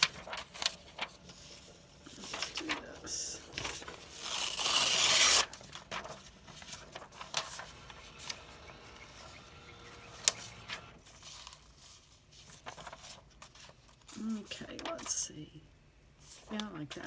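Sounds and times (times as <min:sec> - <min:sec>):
paper sheets rustling: 0:00.0 - 0:15.3.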